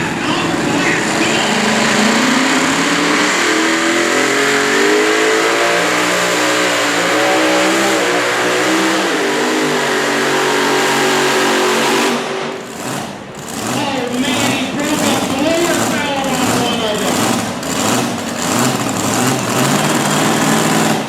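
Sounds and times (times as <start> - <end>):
tractor engine under full load: 0.0 - 21.0.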